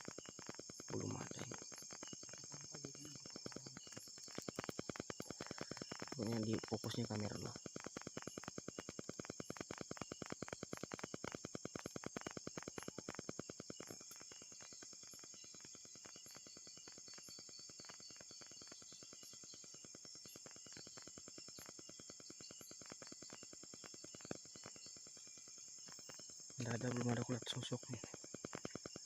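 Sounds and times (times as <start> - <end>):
cricket trill: 0.0 - 29.0
insect ticking pulse: 0.0 - 29.0.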